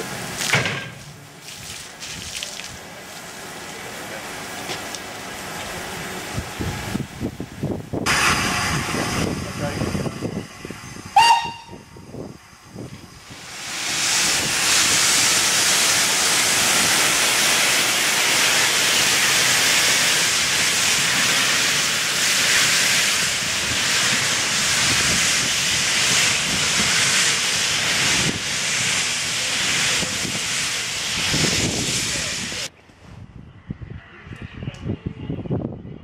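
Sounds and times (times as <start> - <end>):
loud steady steam hiss: 0.0 - 1.4, 2.7 - 32.7.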